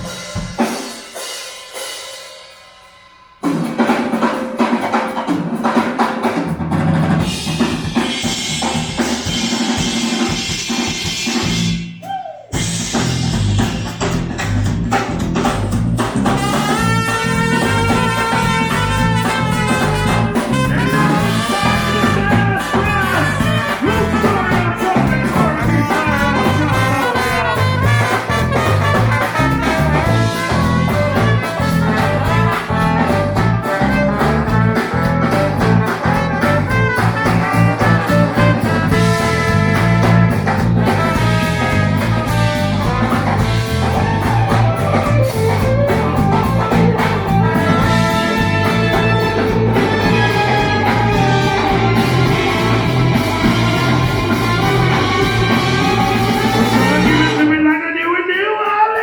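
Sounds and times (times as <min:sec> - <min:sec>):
live band playing: 0:00.0 - 0:59.0.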